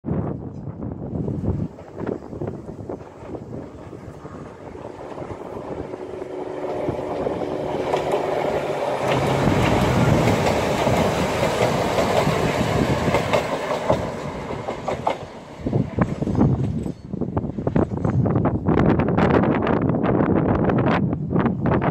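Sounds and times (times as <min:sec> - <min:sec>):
diesel train engine hum: 0:00.2 - 0:21.7
train wheels on rails: 0:00.5 - 0:18.7.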